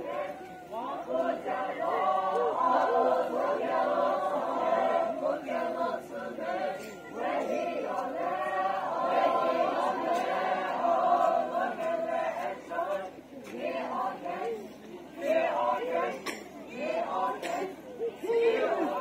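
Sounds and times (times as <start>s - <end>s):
young voices singing together: 0.0s - 19.0s.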